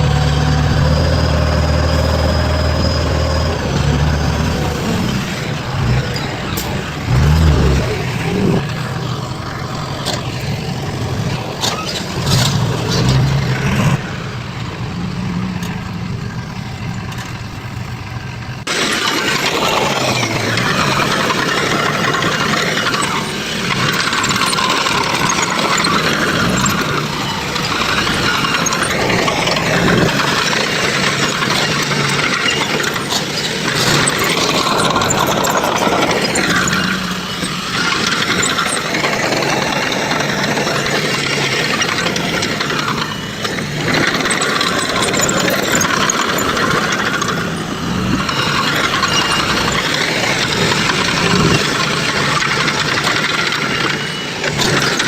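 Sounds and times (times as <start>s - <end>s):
diesel machinery engine running: 0.0s - 55.0s.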